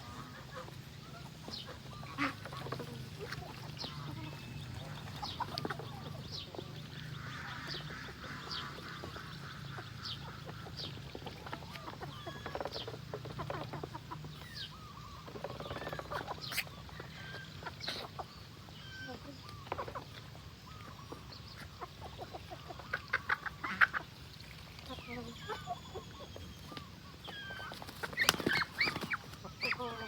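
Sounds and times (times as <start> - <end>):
chickens clucking: 0.0 - 30.0
geese and ducks calling: 0.0 - 30.0.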